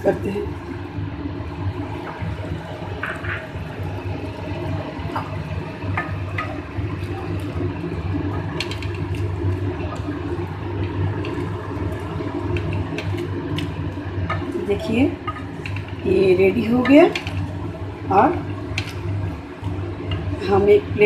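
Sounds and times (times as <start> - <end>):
low hum: 0.0 - 21.0
curry simmering and bubbling: 0.4 - 20.9.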